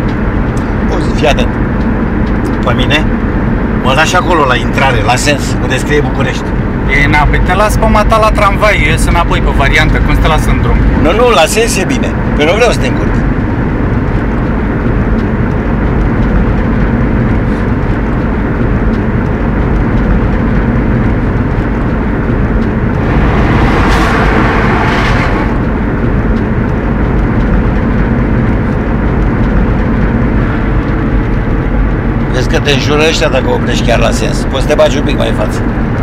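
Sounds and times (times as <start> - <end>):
road and engine noise in van cab: 0.0 - 36.0.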